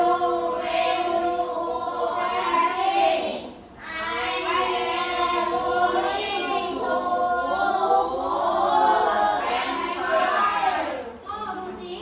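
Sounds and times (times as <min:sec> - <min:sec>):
children chanting in unison: 0:00.0 - 0:11.2.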